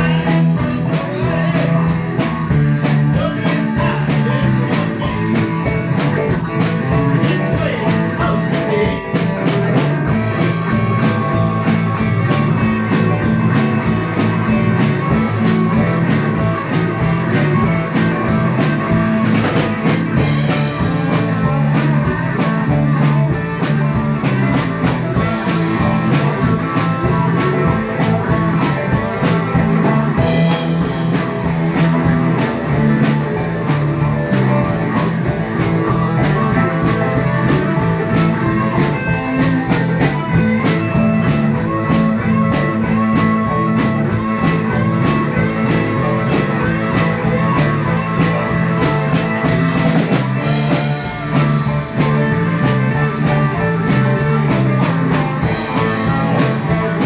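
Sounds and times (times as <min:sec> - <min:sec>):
rock band playing instrumental: 0:00.0 - 0:57.0.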